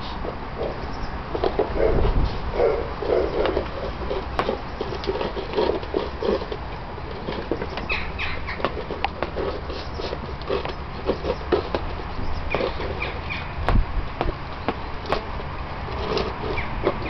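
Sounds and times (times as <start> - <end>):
puppies eating and jostling: 0.0 - 17.0.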